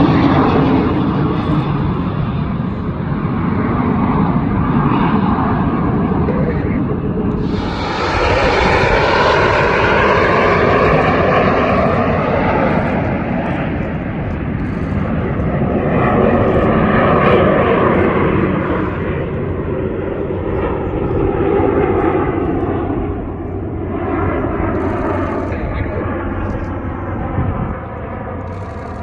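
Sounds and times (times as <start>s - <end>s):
jets flying past: 0.0s - 29.0s.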